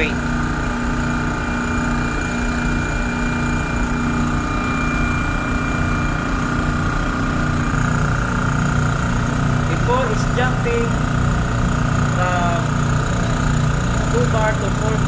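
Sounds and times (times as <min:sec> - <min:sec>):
compressor humming: 0:00.0 - 0:15.0.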